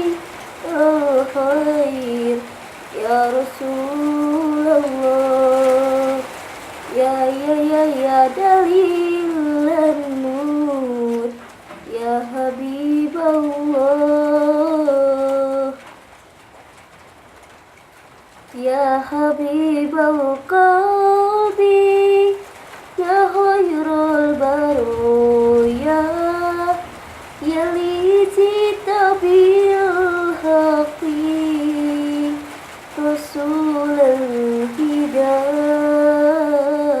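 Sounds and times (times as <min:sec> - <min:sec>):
person singing unaccompanied: 0:00.0 - 0:15.8, 0:18.5 - 0:37.0.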